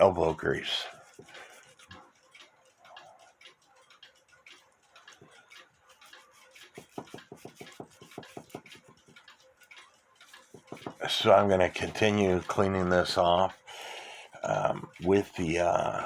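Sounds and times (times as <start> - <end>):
brush scrubbing metal: 0.0 - 16.0.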